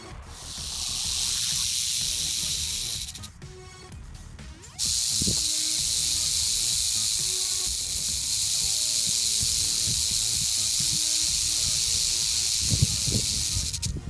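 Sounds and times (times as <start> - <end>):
rattlesnake rattle buzzing: 0.4 - 3.3, 4.8 - 14.0.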